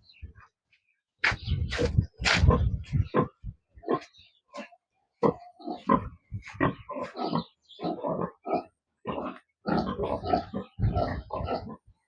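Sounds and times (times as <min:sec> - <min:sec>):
pigs grunting: 0:01.8 - 0:12.0.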